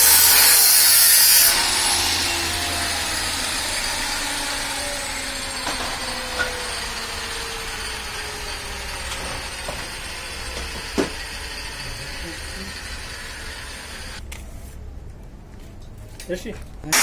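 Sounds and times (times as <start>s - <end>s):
power tool motor winding down: 0.0s - 14.2s.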